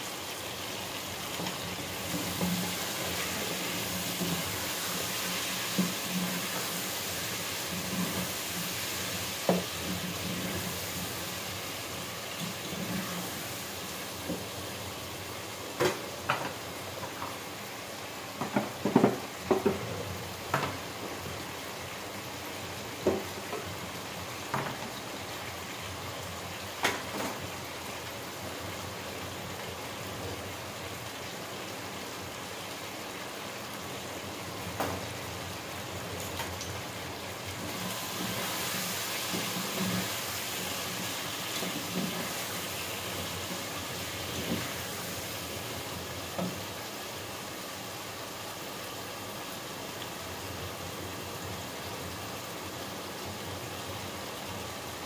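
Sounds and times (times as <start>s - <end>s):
vegetables sizzling in pot: 0.0s - 55.0s.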